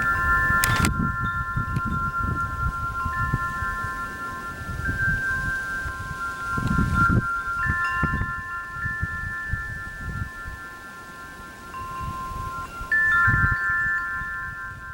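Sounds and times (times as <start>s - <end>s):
chimes ringing: 0.0s - 14.9s.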